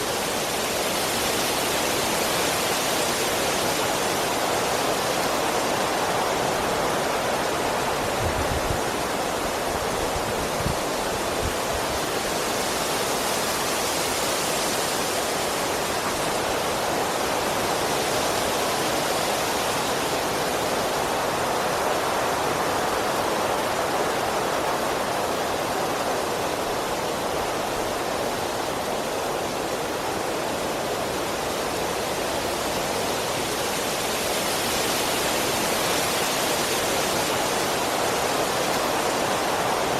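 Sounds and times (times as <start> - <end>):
strong wind rushing through trees: 0.0 - 39.9.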